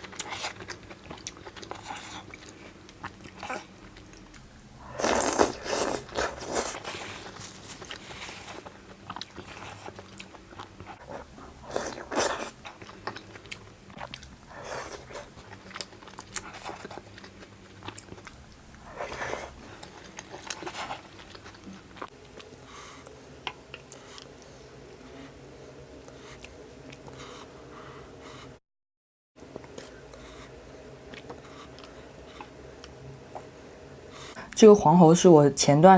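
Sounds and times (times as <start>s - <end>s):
biting and chewing food: 0.0s - 24.4s, 29.5s - 34.2s.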